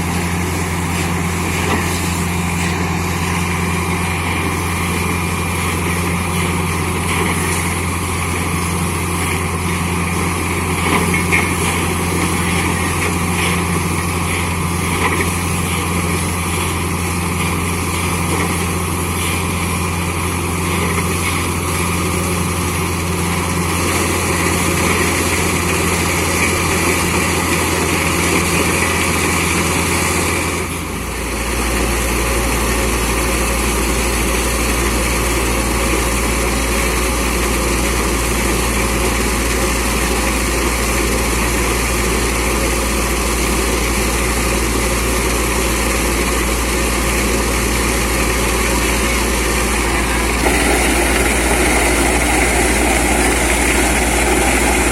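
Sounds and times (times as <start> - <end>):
drilling rig and compressor engines: 0.0 - 54.9.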